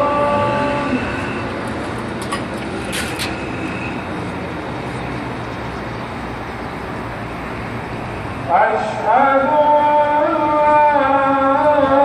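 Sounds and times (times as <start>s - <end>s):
outdoor traffic noise: 0.0s - 12.0s.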